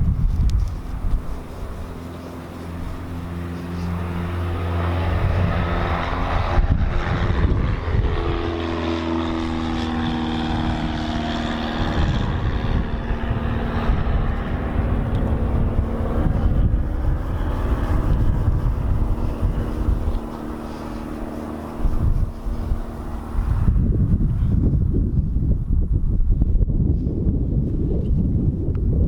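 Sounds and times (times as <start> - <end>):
electric rotary polisher running: 0.3 - 24.6.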